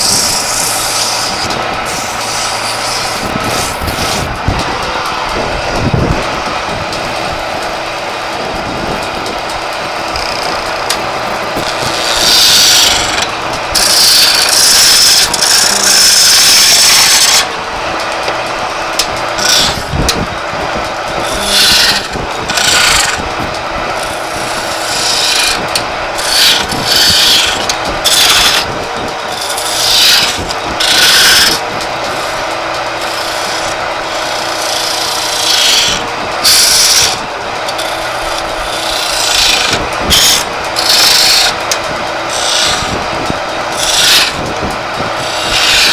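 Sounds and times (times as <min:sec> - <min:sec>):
chisel cutting spinning wood: 0:00.0 - 0:45.9
wood lathe running: 0:00.0 - 0:45.9.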